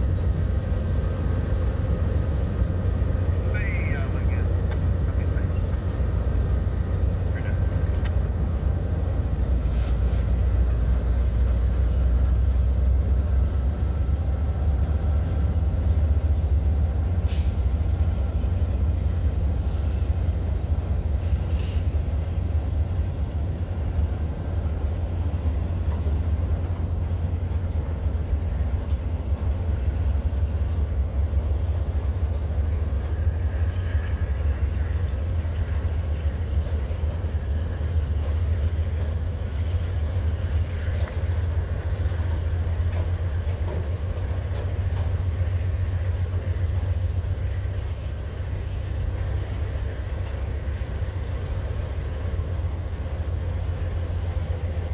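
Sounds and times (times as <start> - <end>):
train wheels rumbling on bridge: 0.0 - 54.9.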